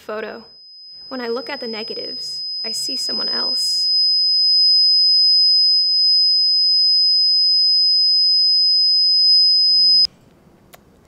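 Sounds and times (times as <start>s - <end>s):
microphone feedback tone: 0.5s - 10.1s.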